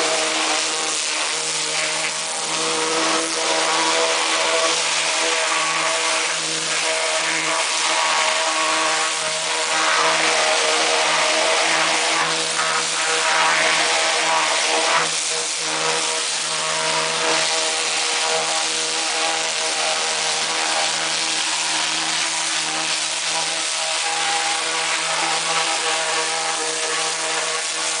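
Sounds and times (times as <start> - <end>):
pressure washer motor hum: 0.0 - 28.0
water jet hissing: 0.0 - 28.0.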